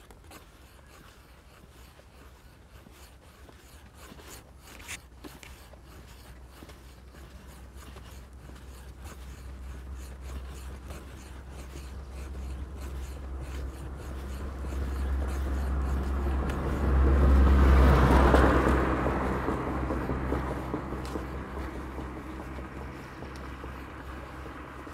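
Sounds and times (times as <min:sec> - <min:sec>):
vehicle passing by: 0:03.6 - 0:24.9.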